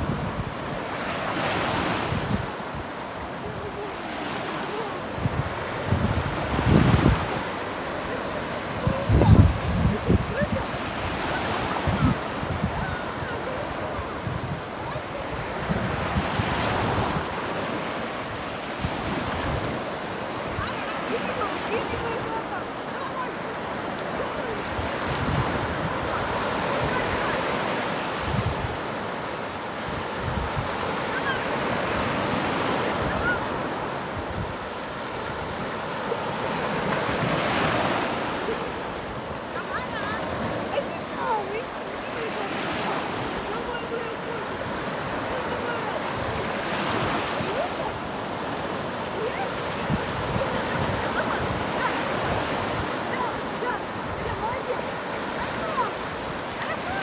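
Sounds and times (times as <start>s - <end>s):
sea surf washing on shore: 0.0s - 57.0s
wind buffeting microphone: 0.0s - 57.0s.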